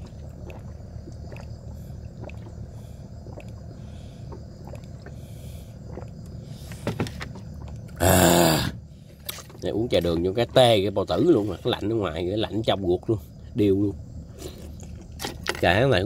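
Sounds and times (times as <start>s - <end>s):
steady low rumble: 0.0s - 8.0s, 8.8s - 15.2s.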